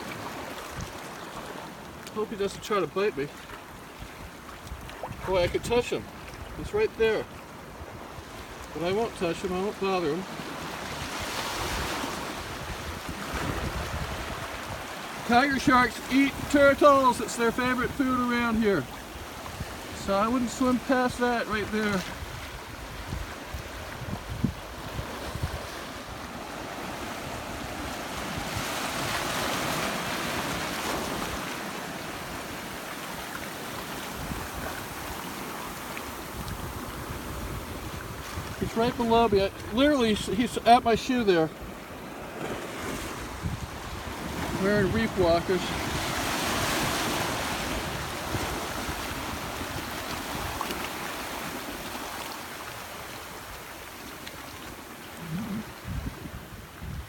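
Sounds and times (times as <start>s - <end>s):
ocean water sloshing: 0.0s - 56.8s
surf surging: 5.1s - 55.9s.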